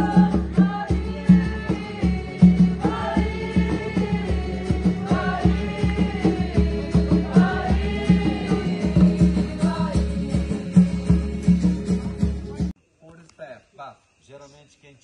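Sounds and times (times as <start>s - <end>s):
group singing in unison: 0.0s - 12.5s.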